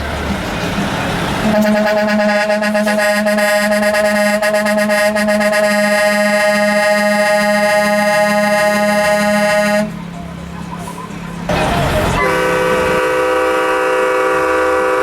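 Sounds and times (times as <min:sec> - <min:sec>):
truck air horn blast: 0:01.4 - 0:10.1, 0:10.8 - 0:15.0.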